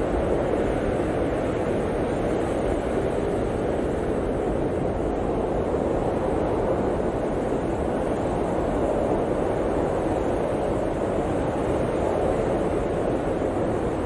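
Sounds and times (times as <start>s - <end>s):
blizzard wind rushing: 0.0s - 14.0s.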